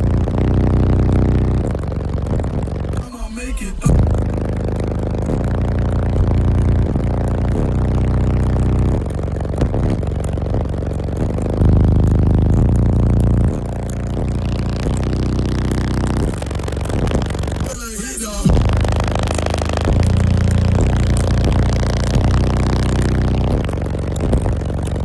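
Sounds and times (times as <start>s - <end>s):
bass-heavy music on car subwoofers: 0.0s - 25.0s
vehicle rattling from bass: 0.0s - 25.0s.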